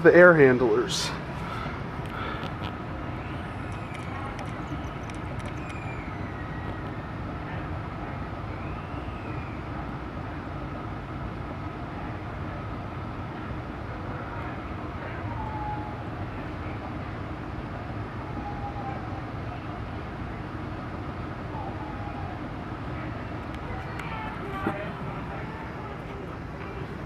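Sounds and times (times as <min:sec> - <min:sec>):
air handler blower running: 0:00.0 - 0:15.3, 0:15.9 - 0:27.0.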